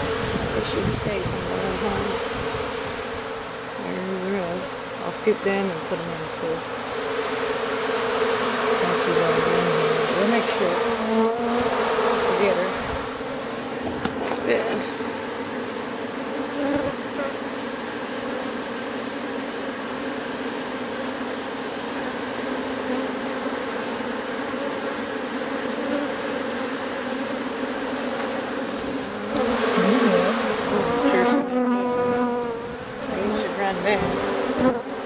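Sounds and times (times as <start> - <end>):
bee swarm buzzing: 0.0 - 35.0.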